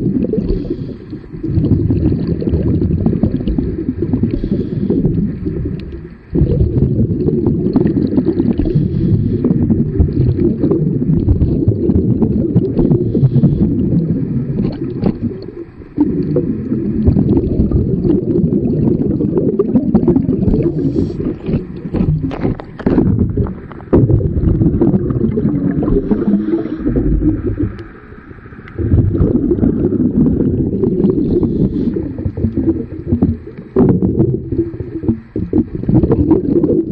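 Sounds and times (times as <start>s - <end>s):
underwater bubbles rumbling: 0.0s - 36.9s.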